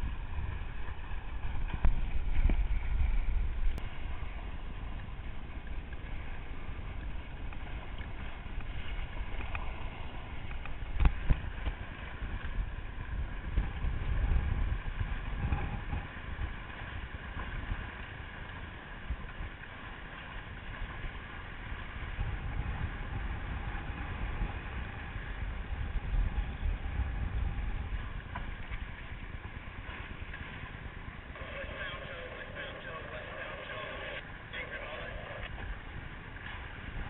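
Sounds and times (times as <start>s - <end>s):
water rushing along boat hull: 0.0s - 37.0s
wind buffeting microphone: 0.0s - 37.0s.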